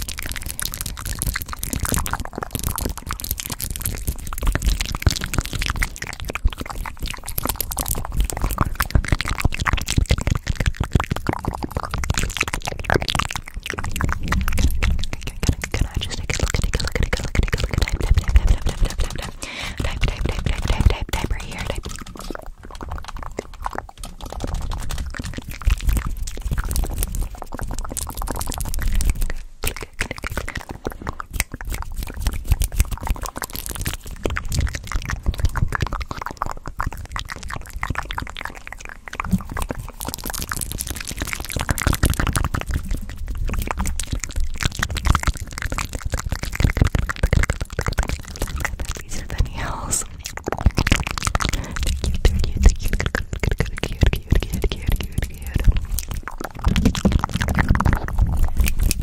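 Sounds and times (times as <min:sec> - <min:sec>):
mouth clicks and crackles: 0:00.0 - 0:59.0.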